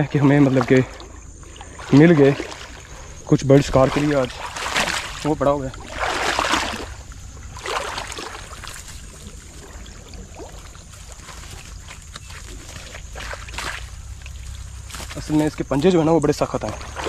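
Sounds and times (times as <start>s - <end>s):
steady low rumble: 0.0s - 17.0s
swishing through wet grass: 1.4s - 15.8s.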